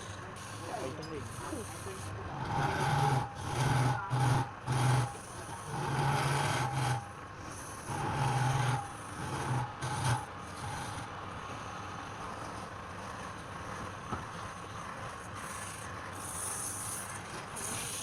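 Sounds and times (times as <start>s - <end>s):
lathe motor hum: 0.0s - 18.0s
tool scraping wood on lathe: 0.0s - 18.0s.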